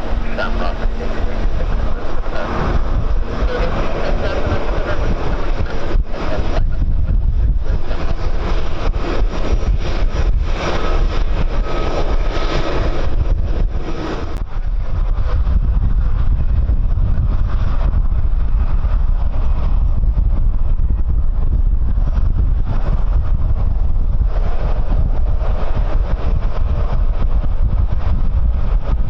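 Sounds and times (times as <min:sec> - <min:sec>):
faint turbine whine: 0:00.0 - 0:29.0
jet engine roar: 0:00.0 - 0:29.0
wind buffeting microphone: 0:00.0 - 0:29.0.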